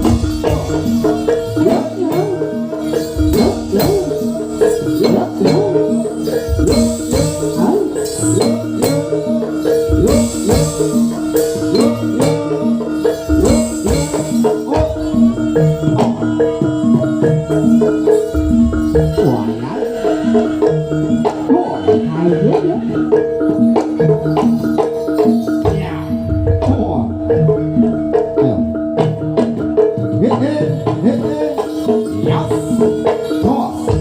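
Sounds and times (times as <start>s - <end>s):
drum strikes: 0.0s - 34.0s
gamelan mallet melody: 0.0s - 34.0s.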